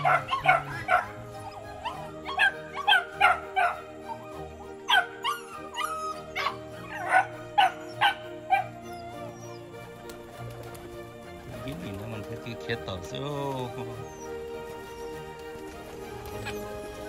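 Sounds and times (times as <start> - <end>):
guineafowl calling: 0.0 - 10.3, 13.2 - 17.0
background music with held notes: 0.0 - 17.0.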